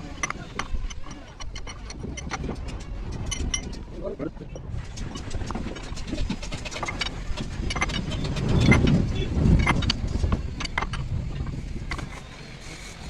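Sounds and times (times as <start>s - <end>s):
metallic clicks and clinks: 0.0s - 12.3s
low vehicle rumble: 0.0s - 13.0s.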